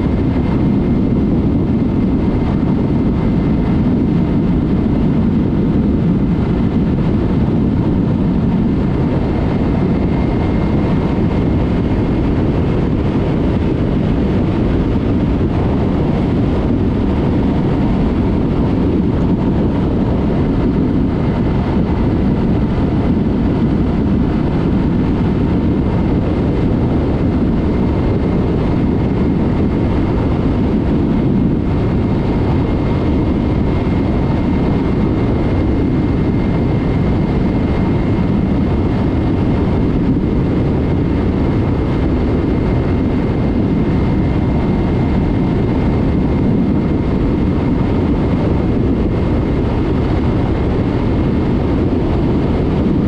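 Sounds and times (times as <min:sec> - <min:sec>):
wind noise: 0:00.0 - 0:53.0.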